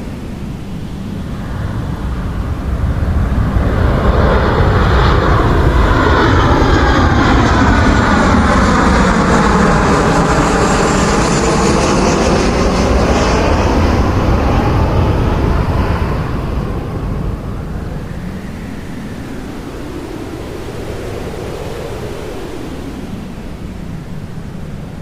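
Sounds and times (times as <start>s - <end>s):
jet airliner engines passing: 0.0s - 25.0s.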